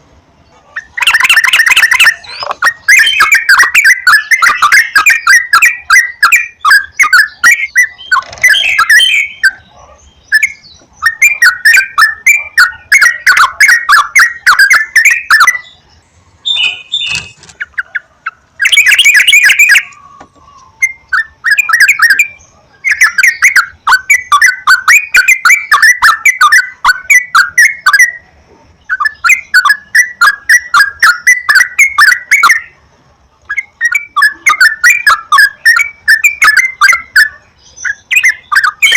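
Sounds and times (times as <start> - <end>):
bulbul chattering song: 0.0 - 38.9.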